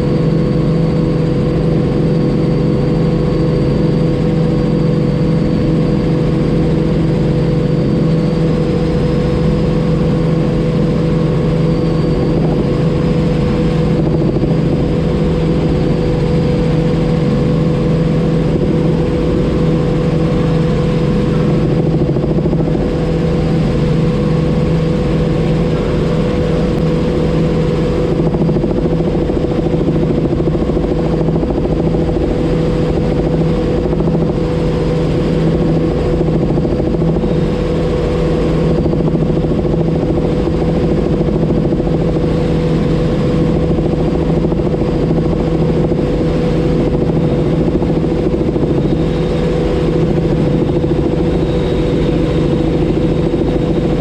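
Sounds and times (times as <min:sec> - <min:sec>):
helicopter engine and rotors drone: 0:00.0 - 0:54.0.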